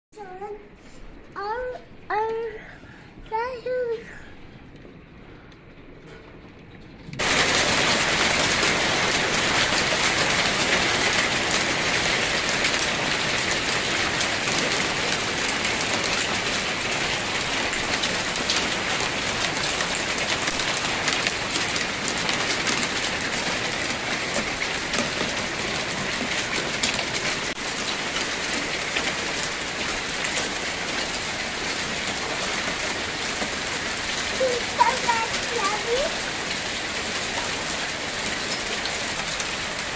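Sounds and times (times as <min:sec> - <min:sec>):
hail pelting down: 0:04.8 - 0:39.9.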